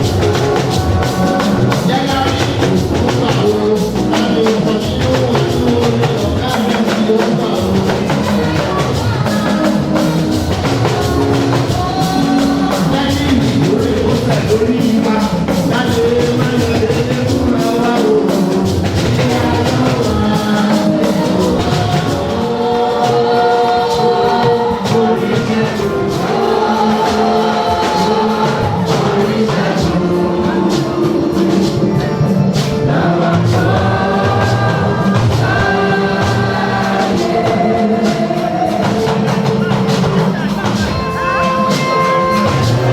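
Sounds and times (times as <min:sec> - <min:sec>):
choir singing: 0:00.0 - 0:42.9
drums beating: 0:00.0 - 0:42.9.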